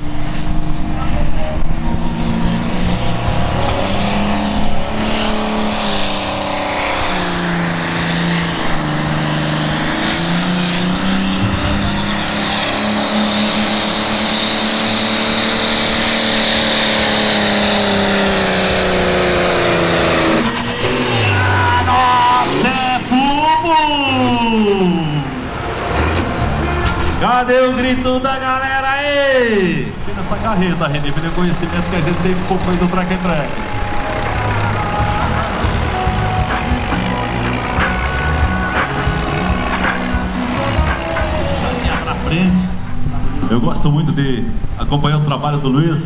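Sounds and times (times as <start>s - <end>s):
diesel engine at high revs: 0.0s - 45.8s
high whine: 0.0s - 45.8s.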